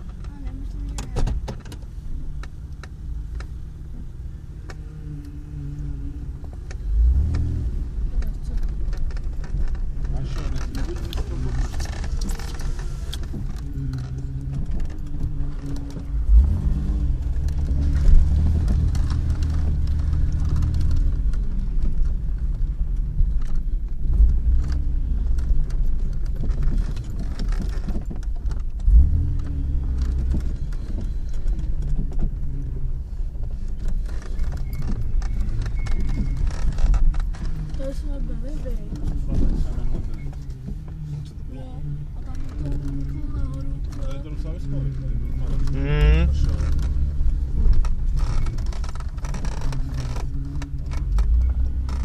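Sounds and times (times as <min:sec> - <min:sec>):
engine pulling at low speed: 0:00.0 - 0:52.0
body and suspension thumps: 0:06.2 - 0:52.0.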